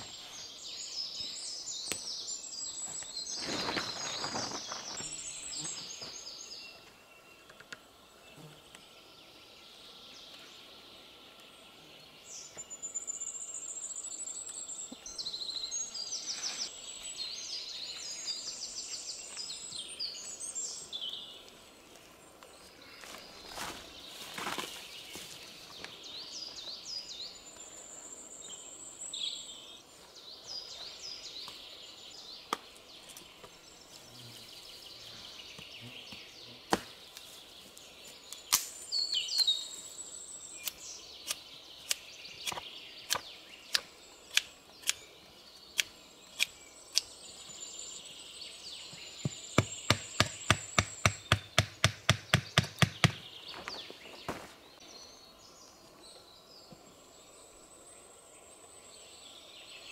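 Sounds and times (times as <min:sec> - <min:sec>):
forest birds chirping: 0:00.0 - 0:59.9.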